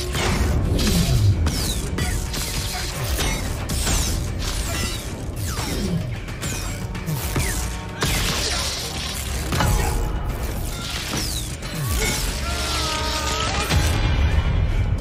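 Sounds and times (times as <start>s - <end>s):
sharp clashing impacts: 0.0s - 14.0s
background music: 0.0s - 15.0s.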